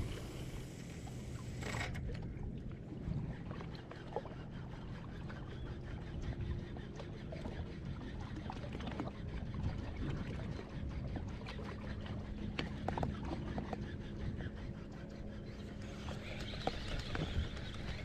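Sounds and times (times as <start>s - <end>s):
steady low hum: 0.0s - 18.0s
water splashing around boat: 0.0s - 18.0s.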